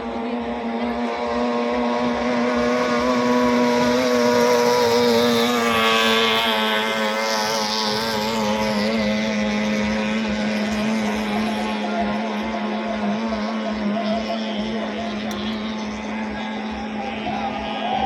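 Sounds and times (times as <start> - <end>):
outboard motor running flat out: 0.0 - 18.0.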